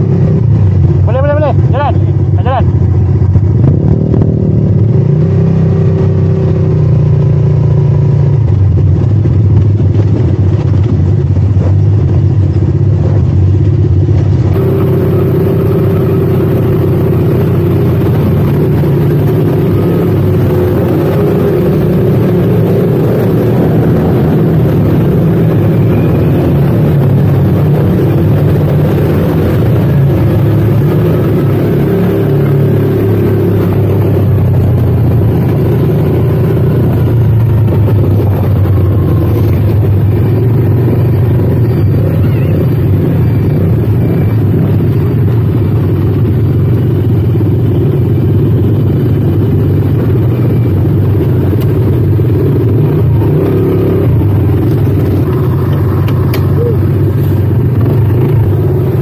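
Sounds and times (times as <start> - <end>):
atv engine droning: 0.0 - 59.0.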